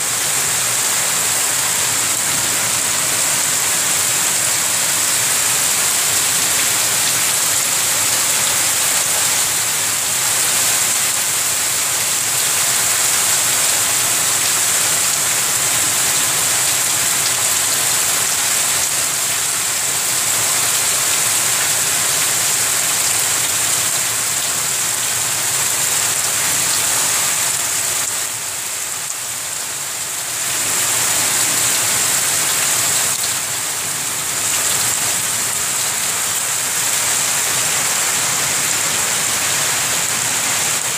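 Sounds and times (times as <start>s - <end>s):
heavy rain pouring on water: 0.0s - 40.9s.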